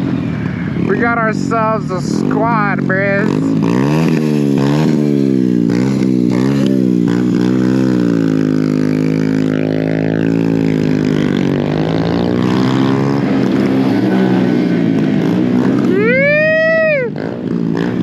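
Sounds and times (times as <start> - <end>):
mini bike engine running: 0.0 - 18.0.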